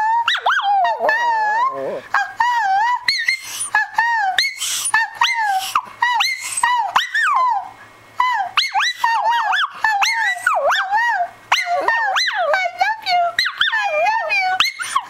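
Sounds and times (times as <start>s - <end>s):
dog howling whines: 0.0s - 12.6s, 13.4s - 15.0s.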